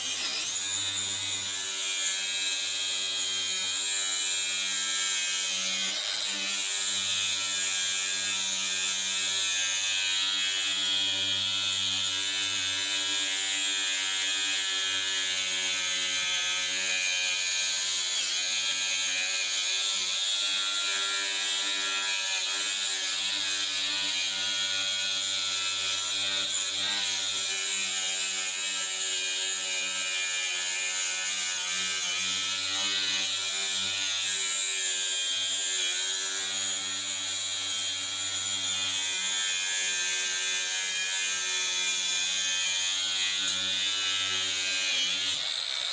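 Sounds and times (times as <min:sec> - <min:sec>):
angle grinder sanding metal: 0:00.0 - 0:45.9.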